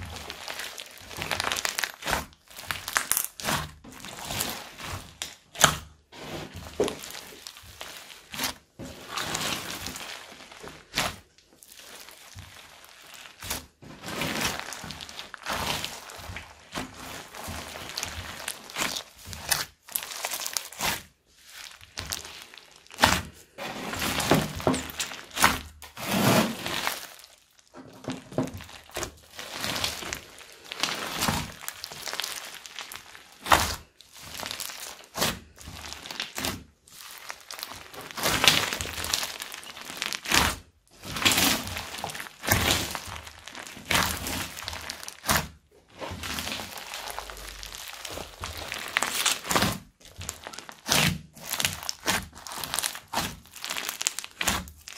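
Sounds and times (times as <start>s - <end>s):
slime crunching and crackling: 0.0s - 54.9s.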